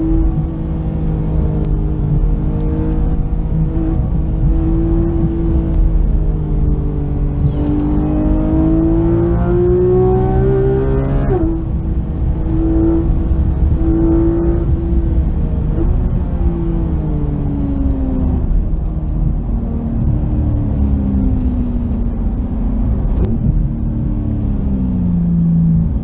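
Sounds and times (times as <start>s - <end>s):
car engine pulling hard: 0.0s - 26.0s
tyre and road rumble: 0.0s - 26.0s.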